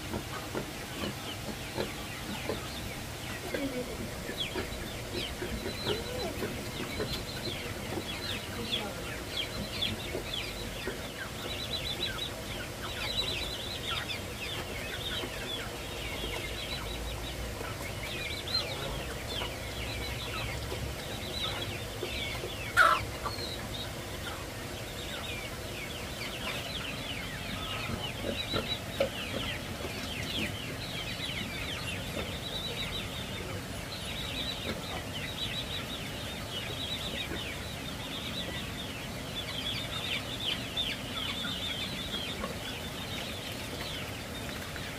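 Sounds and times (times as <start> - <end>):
chicks peeping: 0.0 - 44.9.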